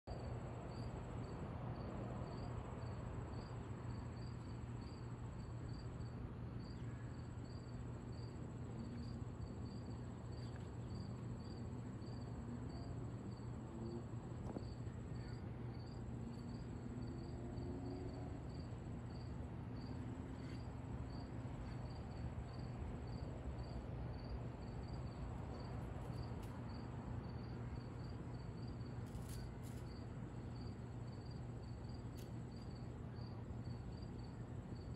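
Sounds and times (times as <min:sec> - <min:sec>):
crickets chirping: 0:00.1 - 0:34.9
high insect trill: 0:00.1 - 0:34.9.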